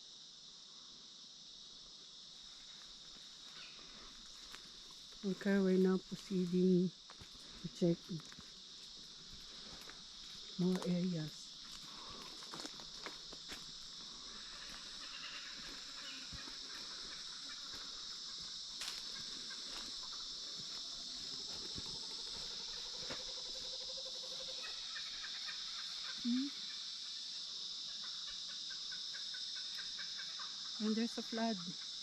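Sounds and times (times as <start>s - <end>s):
insects chorus: 0.0s - 32.0s.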